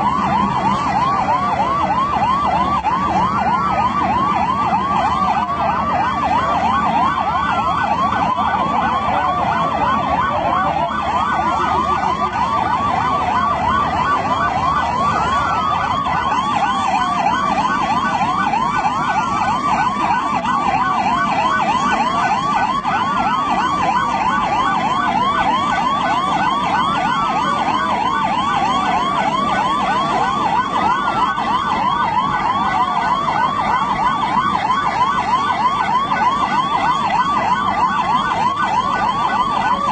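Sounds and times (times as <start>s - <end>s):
fast yelp siren: 0.0s - 39.9s
wailing siren: 0.0s - 39.9s.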